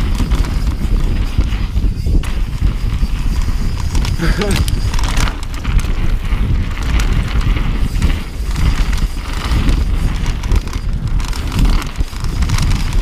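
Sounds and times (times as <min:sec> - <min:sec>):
bike rattling over bumps: 0:00.0 - 0:13.0
wind buffeting microphone: 0:00.0 - 0:13.0.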